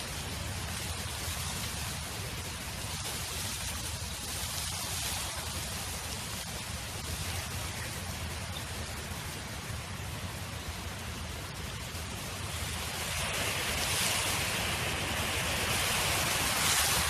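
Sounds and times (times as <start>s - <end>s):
steady wind noise: 0.0s - 17.0s.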